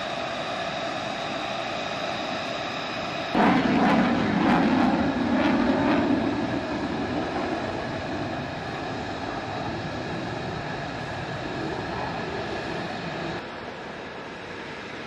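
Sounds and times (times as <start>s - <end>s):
jet engine rushing noise: 0.0s - 13.4s
jet engine turbine whine: 0.0s - 15.0s.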